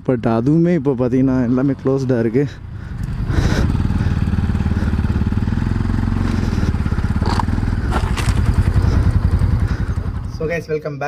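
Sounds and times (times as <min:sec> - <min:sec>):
motorcycle engine idling: 0:01.0 - 0:11.0.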